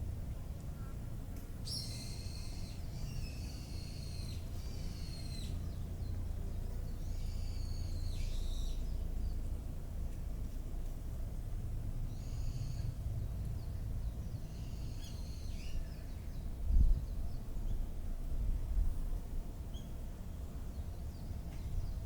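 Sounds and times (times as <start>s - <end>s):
songbird singing: 0.0s - 10.3s, 12.0s - 22.0s.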